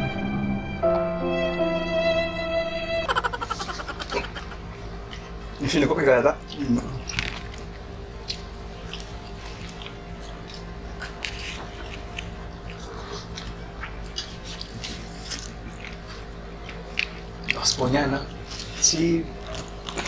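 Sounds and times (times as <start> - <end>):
people chewing and lip smacking: 3.1 - 20.0.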